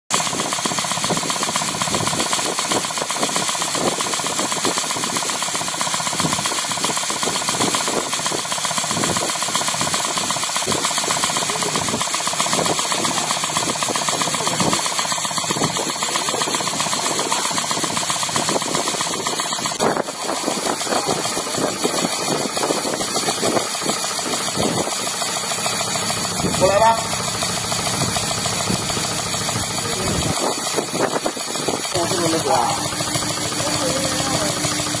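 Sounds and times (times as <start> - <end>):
hydraulic pump whirring: 0.1 - 35.0.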